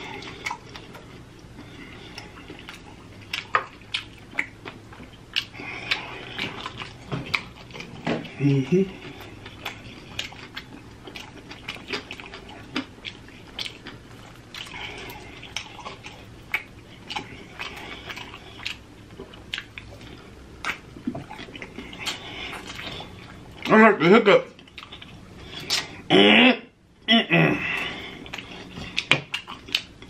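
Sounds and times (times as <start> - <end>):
person chewing and lip smacking: 0.0 - 23.8, 24.5 - 26.1, 27.6 - 30.0.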